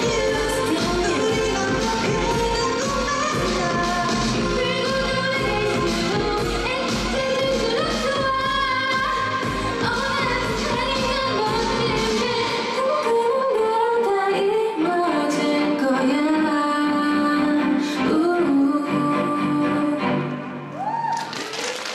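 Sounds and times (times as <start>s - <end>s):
woman singing: 0.0s - 20.4s
pop dance song: 0.0s - 21.0s.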